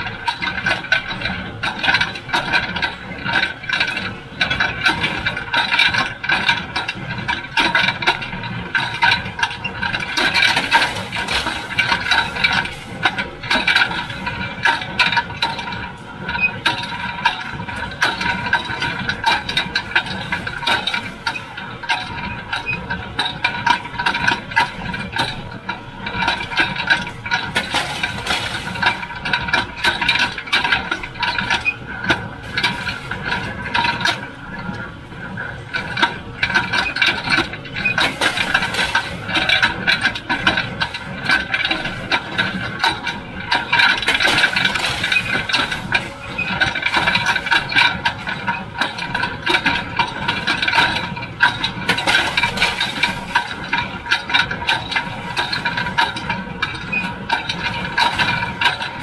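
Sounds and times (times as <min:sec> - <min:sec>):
tractor engine: 0:00.0 - 0:59.0
baler clattering and rattling: 0:00.1 - 0:59.0.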